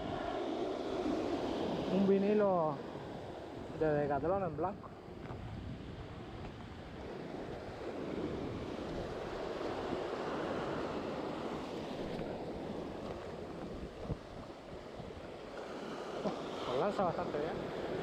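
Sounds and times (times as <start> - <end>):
surf washing on rocky shore: 0.0 - 18.0
wind buffeting microphone: 0.0 - 18.0.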